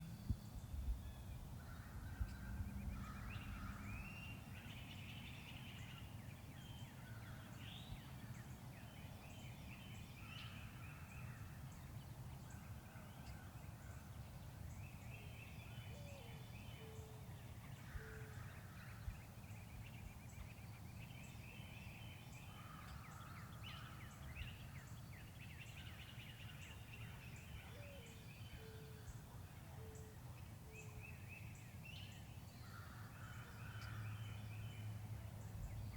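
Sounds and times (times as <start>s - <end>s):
songbirds chirping and trilling: 0.0s - 35.9s.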